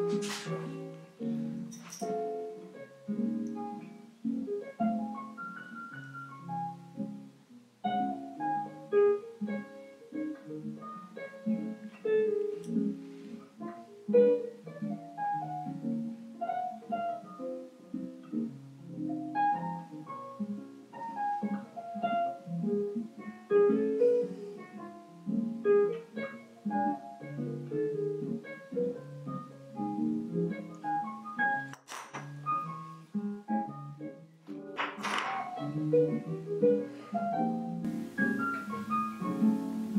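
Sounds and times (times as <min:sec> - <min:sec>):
soft instrumental music: 0:00.0 - 0:39.9.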